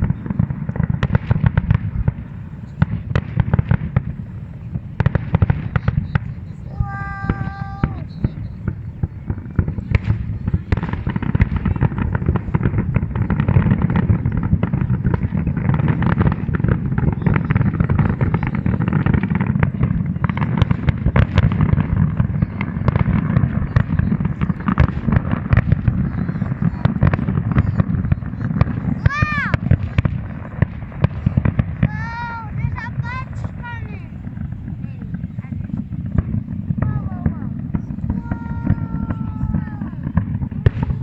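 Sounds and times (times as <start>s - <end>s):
fireworks crackling and banging: 0.0s - 41.0s.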